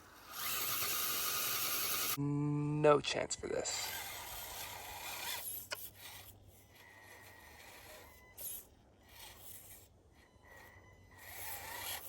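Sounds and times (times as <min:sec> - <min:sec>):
small electric motor whine: 0:00.0 - 0:02.2, 0:03.6 - 0:12.0.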